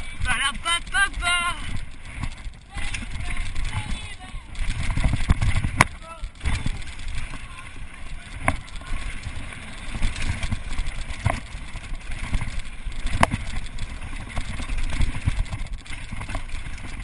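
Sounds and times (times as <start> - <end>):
bike tyres on gravel: 0.0 - 17.0
wind buffeting microphone: 0.0 - 17.0.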